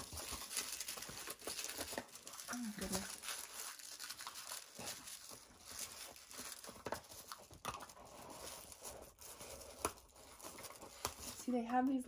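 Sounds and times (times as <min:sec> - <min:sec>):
cardboard box rustling: 0:00.0 - 0:11.6.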